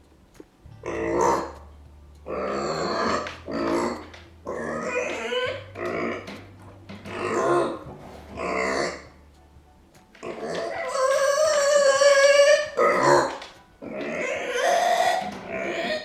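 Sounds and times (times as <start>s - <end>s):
pig crying out: 0.8s - 1.6s, 2.3s - 6.4s, 7.0s - 9.2s, 10.2s - 16.0s.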